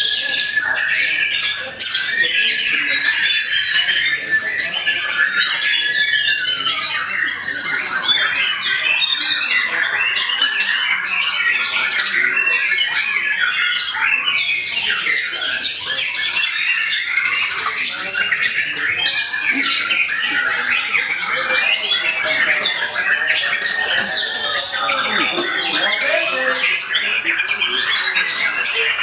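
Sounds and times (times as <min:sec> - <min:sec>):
songbirds singing in chorus: 0:00.0 - 0:29.0.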